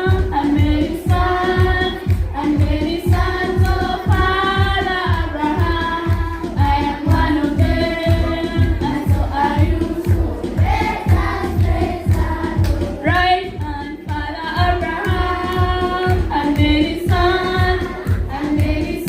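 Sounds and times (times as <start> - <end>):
children's choir singing: 0.0 - 13.0, 13.6 - 19.0
steady low beat: 0.0 - 19.0.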